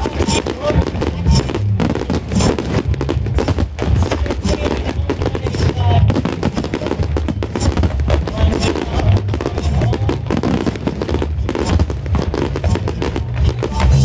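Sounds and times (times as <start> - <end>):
fireworks bangs and crackles: 0.0 - 14.0
music with heavy bass: 0.0 - 14.0.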